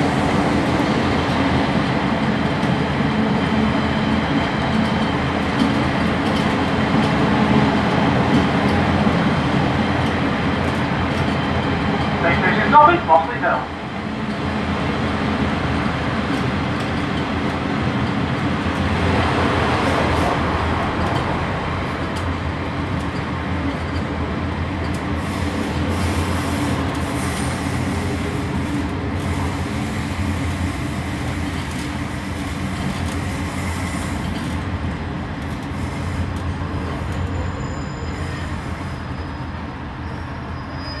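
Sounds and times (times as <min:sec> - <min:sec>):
train interior rumble: 0:00.0 - 0:41.0.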